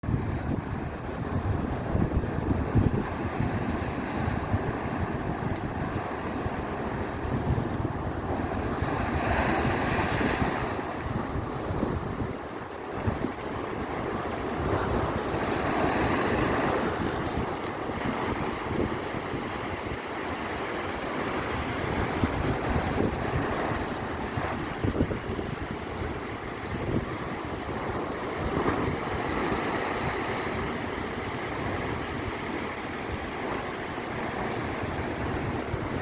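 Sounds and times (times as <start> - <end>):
sea waves washing: 0.0 - 36.0
wind buffeting microphone: 0.0 - 36.0.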